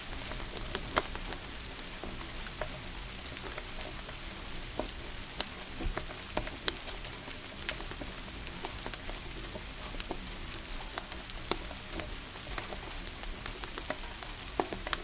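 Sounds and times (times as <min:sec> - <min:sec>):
rain hiss: 0:00.0 - 0:15.0
wood fire crackling: 0:00.0 - 0:15.0.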